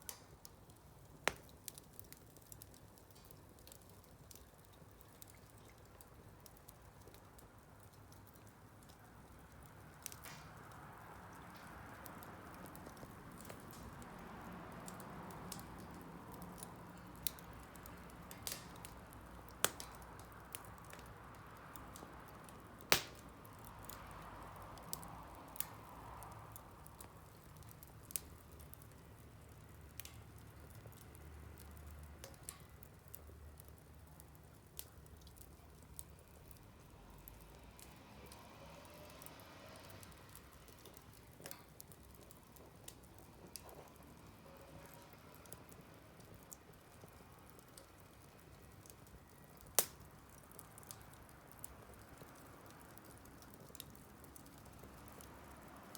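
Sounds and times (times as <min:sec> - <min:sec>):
campfire crackling and popping: 0:00.0 - 0:55.9
hiss of burning wood: 0:06.3 - 0:55.9.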